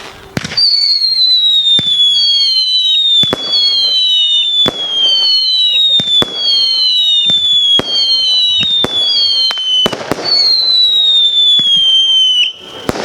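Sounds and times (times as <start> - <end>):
firework bangs: 0.0 - 13.0
firework whistles: 0.0 - 13.0.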